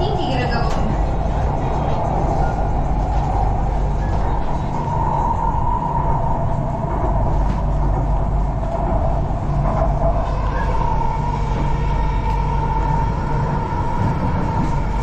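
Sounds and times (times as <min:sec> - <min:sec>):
constant train whine: 0:00.0 - 0:15.0
metro train rumble: 0:00.0 - 0:15.0.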